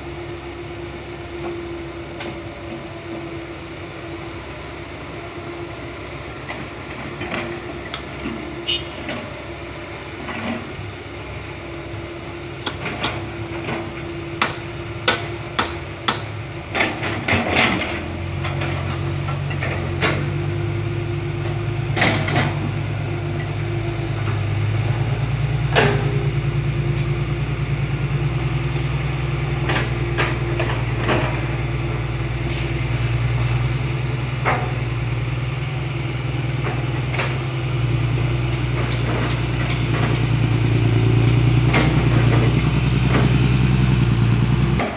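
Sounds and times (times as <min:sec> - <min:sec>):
excavator running: 0:00.0 - 0:44.9
low engine drone: 0:00.0 - 0:44.9.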